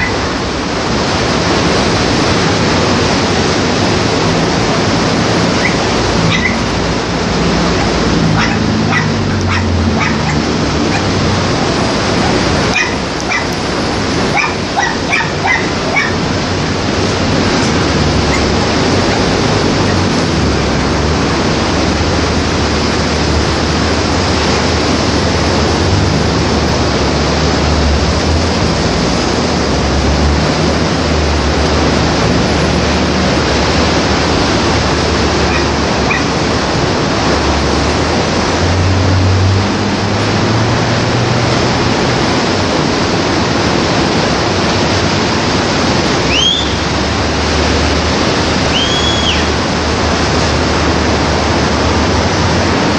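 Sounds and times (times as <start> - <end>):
passing cars rumble: 0.0 - 52.9
sea waves breaking on beach: 0.0 - 52.9.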